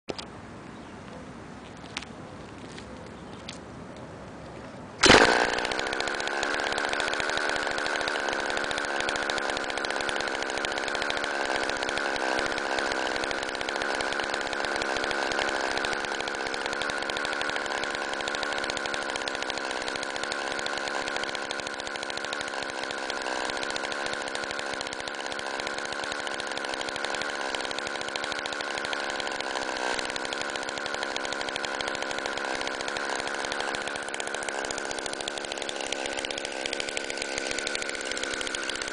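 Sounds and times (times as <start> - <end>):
go-kart engine running: 5.0 - 38.9.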